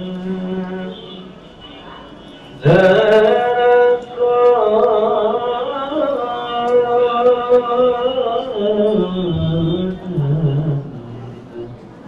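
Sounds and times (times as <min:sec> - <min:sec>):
person chanting: 0:00.0 - 0:01.4, 0:02.6 - 0:11.8.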